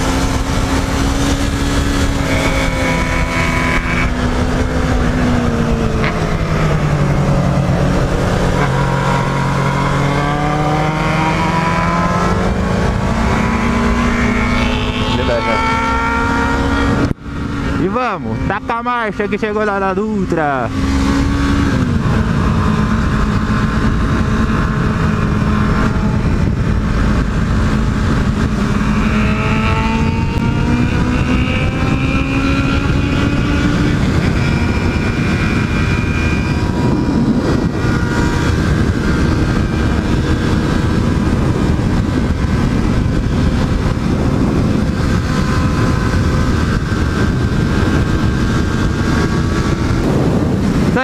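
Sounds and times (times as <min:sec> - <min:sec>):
motorcycle engine: 0:00.0 - 0:51.0
wind rush on microphone: 0:00.0 - 0:51.0.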